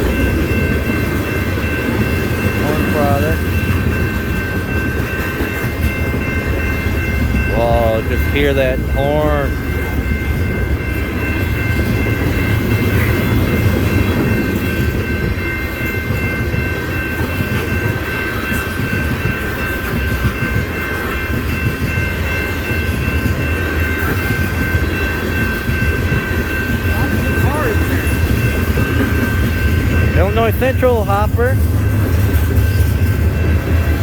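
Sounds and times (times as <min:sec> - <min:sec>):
freight train cars rumbling: 0:00.0 - 0:34.0
steady high-pitched tones: 0:00.0 - 0:34.0.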